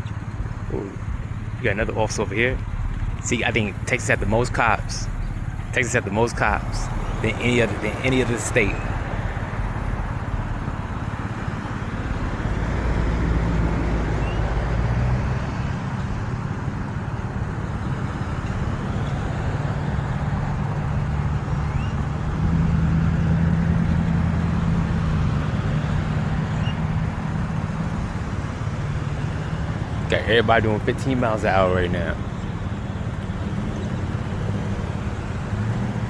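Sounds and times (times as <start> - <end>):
low engine hum: 0.0 - 36.0
traffic noise: 0.0 - 36.0.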